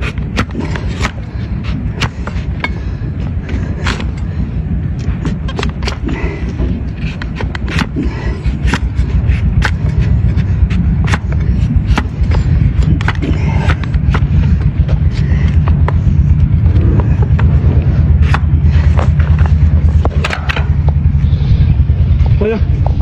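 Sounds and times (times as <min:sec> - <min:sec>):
hoof being trimmed clicks and snaps: 0:00.0 - 0:21.0
steady low rumble: 0:00.0 - 0:23.0.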